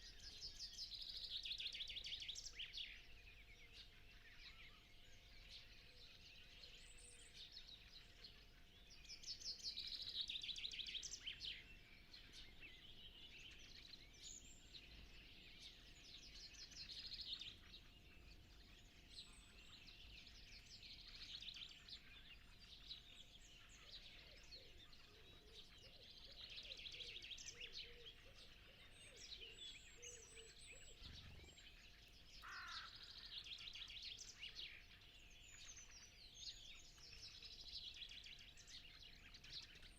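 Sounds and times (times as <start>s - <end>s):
bird song with descending notes: 0.0s - 39.9s
birds calling and chirping: 0.0s - 39.9s.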